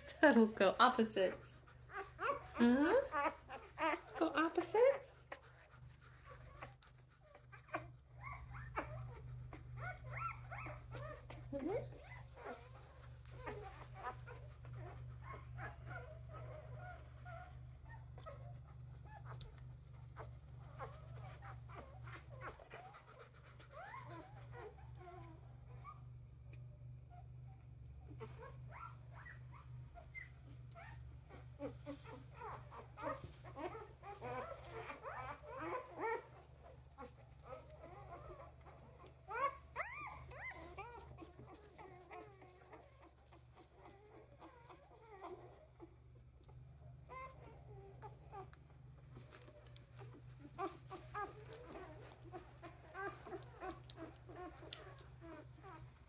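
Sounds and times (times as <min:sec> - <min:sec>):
puppy squeaking and whimpering: 0:01.4 - 0:26.1, 0:27.1 - 0:56.0.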